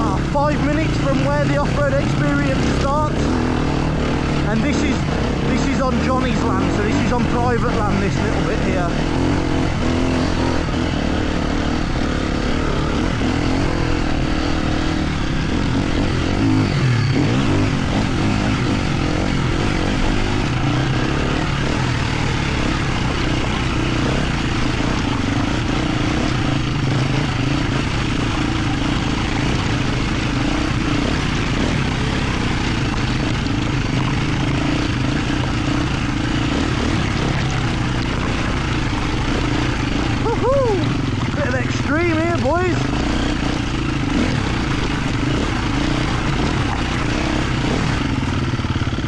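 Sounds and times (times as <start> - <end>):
dirt bike engine droning: 0.0 - 49.0.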